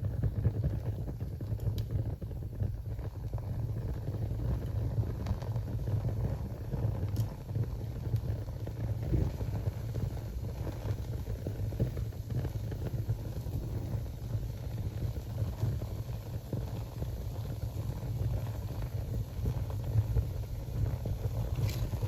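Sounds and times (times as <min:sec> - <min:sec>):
fire crackling: 0:00.0 - 0:22.0
fire flames rumbling: 0:00.0 - 0:22.0.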